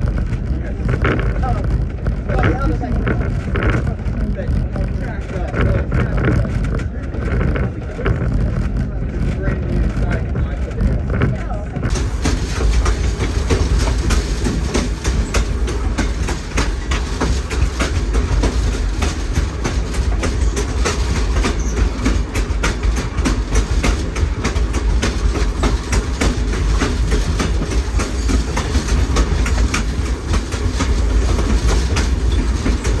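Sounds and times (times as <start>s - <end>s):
railroad car rumbling on track: 0.0s - 33.0s
wheels clicking over rail joints: 0.0s - 33.0s.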